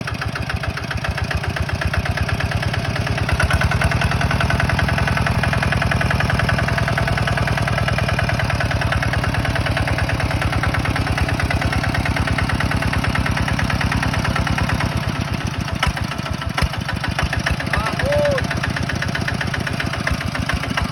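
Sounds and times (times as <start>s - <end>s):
heavy machine engine running: 0.0s - 20.9s.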